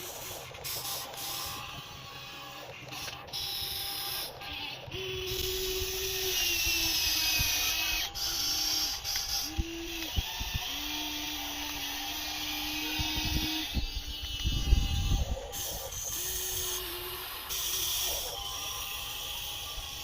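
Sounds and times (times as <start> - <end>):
toy excavator electric motor whine: 0.0 - 20.0.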